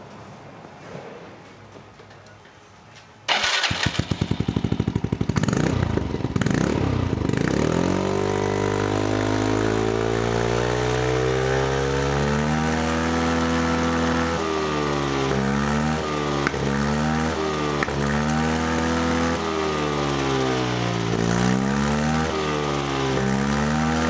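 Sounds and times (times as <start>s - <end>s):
scooter engine starting and idling: 3.3s - 24.0s.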